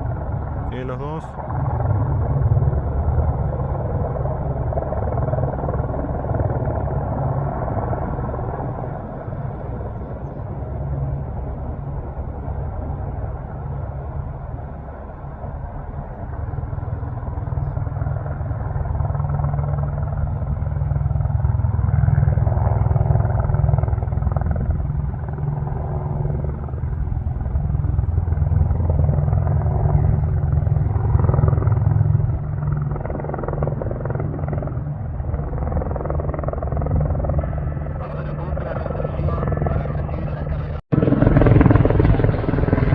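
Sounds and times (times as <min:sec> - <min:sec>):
helicopter rotor chopping: 0:00.0 - 0:42.9.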